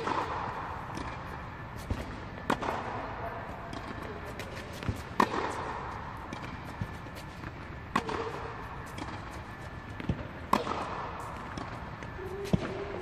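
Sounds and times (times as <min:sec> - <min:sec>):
tennis ball struck by racket: 0:00.0 - 0:09.3, 0:09.9 - 0:11.8
ball bouncing on court: 0:01.9 - 0:09.3, 0:09.9 - 0:13.0.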